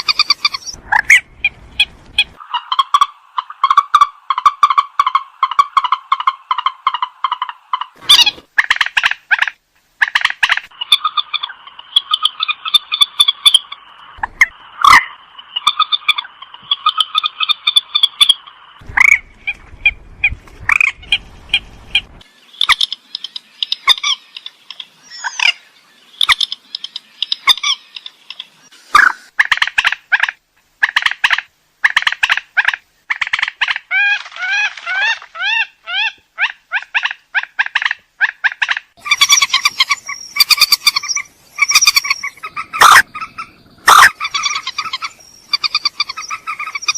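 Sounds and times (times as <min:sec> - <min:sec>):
birds giving harsh calls: 0:00.0 - 0:30.3, 0:30.9 - 0:46.9.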